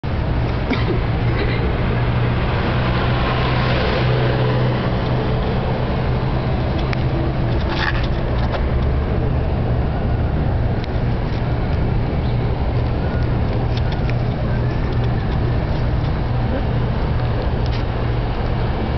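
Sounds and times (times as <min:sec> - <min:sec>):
electric motor rush and hum: 0:00.1 - 0:18.9.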